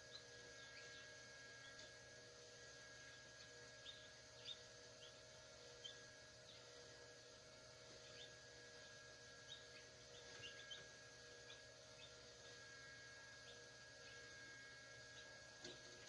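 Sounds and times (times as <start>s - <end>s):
chicks peeping: 0.0s - 2.1s, 2.7s - 16.0s
steady hum: 0.0s - 16.0s.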